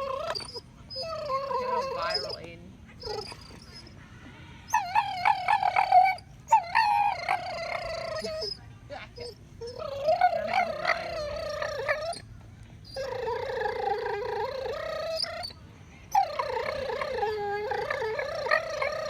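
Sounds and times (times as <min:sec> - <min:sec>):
dog whining squeakily: 0:00.0 - 0:04.0, 0:04.7 - 0:08.6, 0:09.2 - 0:12.2, 0:12.8 - 0:19.0.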